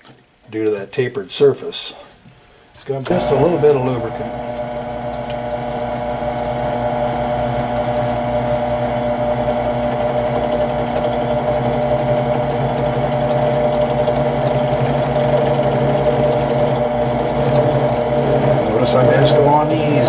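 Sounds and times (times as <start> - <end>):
drill cutting into metal: 3.1 - 20.0.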